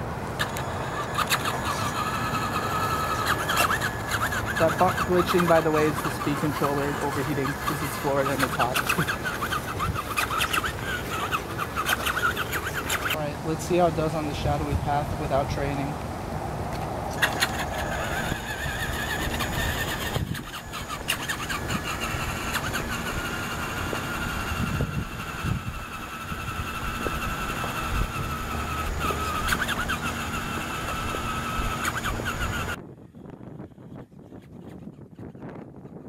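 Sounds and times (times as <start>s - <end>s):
rc car electric motor whining: 0.0s - 15.9s, 17.1s - 32.8s.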